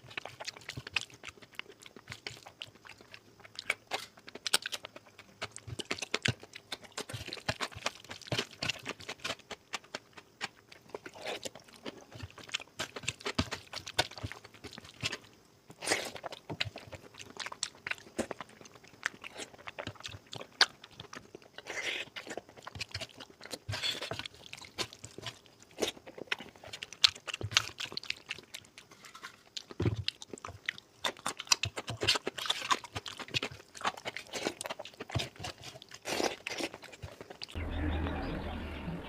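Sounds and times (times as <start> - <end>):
person chewing food: 0.0 - 37.6.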